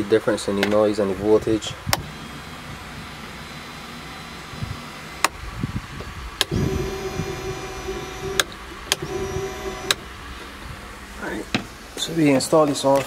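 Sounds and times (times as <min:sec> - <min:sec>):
fuel pump whining: 0:01.2 - 0:13.0.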